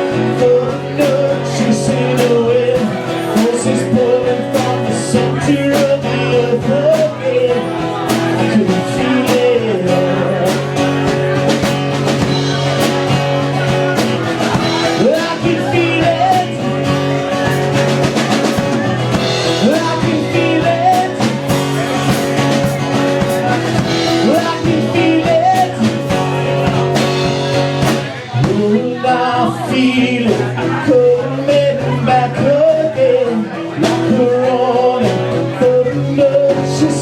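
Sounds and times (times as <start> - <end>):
live rock music: 0.0 - 37.0
sliding bending guitar notes: 0.0 - 37.0.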